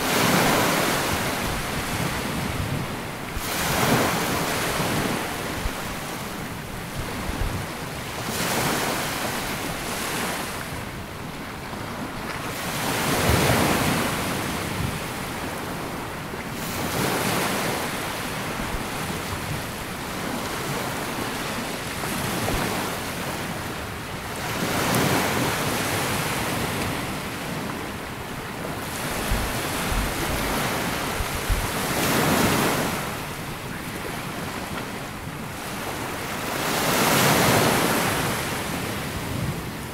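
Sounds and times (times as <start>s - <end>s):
wind buffeting microphone: 0.0s - 36.2s
small waves washing onto beach: 0.0s - 39.9s.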